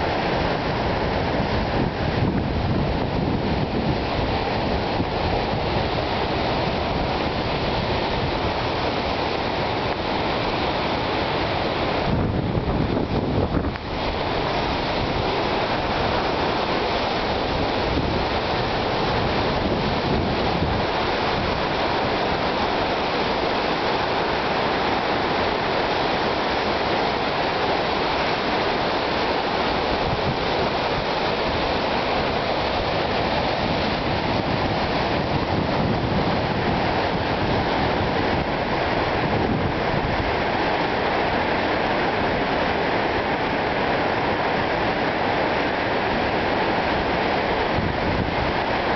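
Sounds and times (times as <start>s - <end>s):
river rushing over waterfall: 0.0s - 48.9s.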